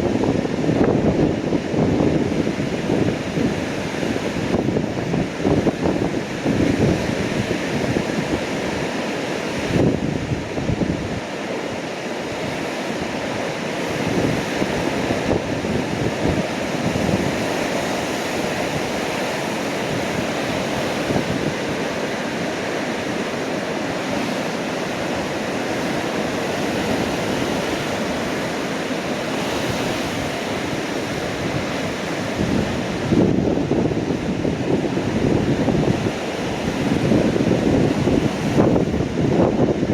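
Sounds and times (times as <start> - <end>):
rough sea breaking on rocks: 0.0 - 39.9
wind buffeting microphone: 0.0 - 39.9.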